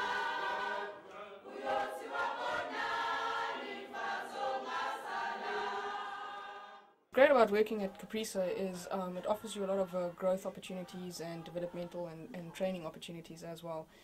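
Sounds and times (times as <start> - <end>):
choir singing: 0.0 - 7.0, 7.8 - 12.8.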